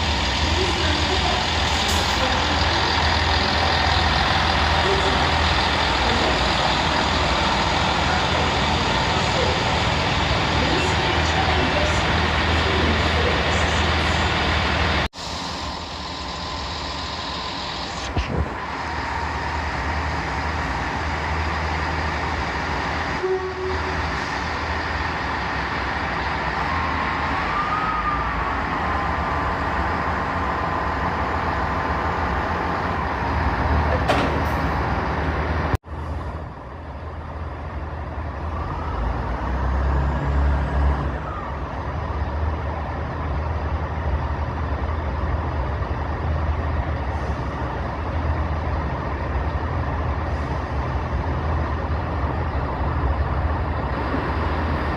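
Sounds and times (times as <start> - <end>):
diesel train engines droning: 0.0 - 54.9.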